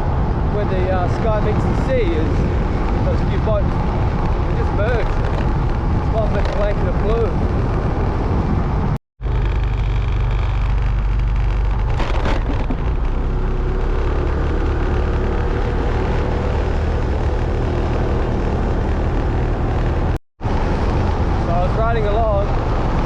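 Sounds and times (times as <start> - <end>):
motorbike engine hum: 0.0 - 23.0
wind rumble on microphone: 0.0 - 23.0.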